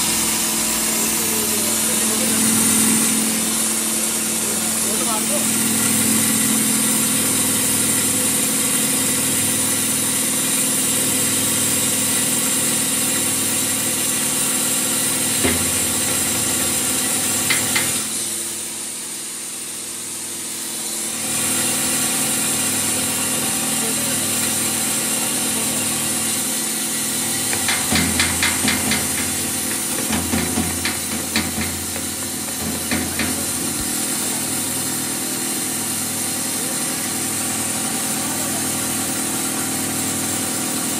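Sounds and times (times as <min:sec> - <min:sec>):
grain grinder running: 0:00.0 - 0:40.9.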